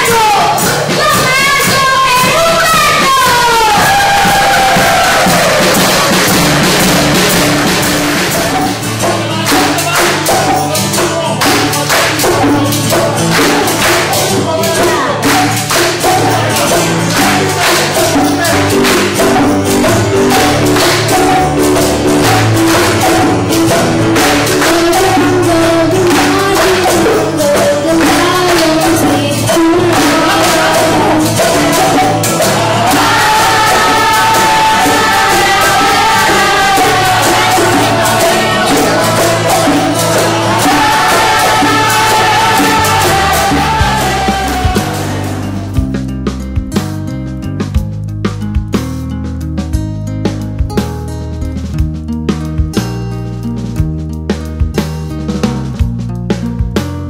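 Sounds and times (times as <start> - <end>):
many voices singing: 0.0 - 46.1
drums: 0.0 - 57.0.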